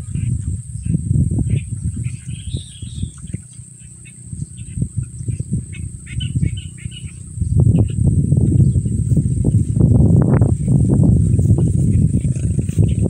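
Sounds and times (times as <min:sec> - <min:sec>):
high insect drone: 0:00.0 - 0:13.0
low rumbling thumps: 0:00.0 - 0:13.0
small birds chirping: 0:00.0 - 0:13.0.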